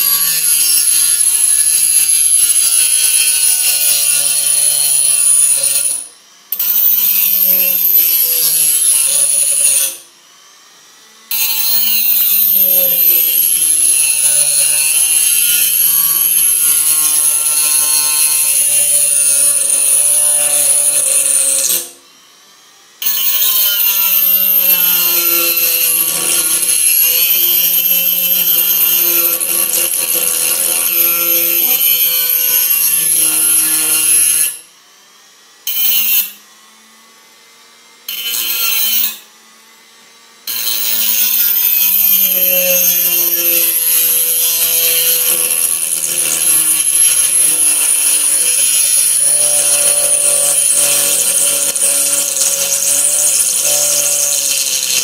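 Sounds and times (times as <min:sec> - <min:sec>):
rotary tool whining: 0:00.0 - 0:55.0.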